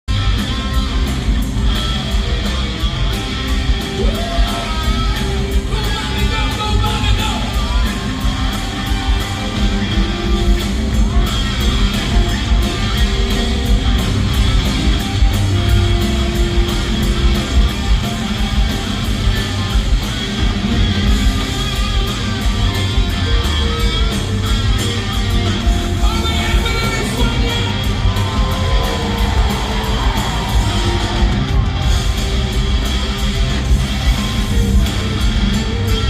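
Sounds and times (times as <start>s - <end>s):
drums: 0.0s - 36.0s
live rock band playing: 0.0s - 36.0s
electric guitar: 0.1s - 36.0s.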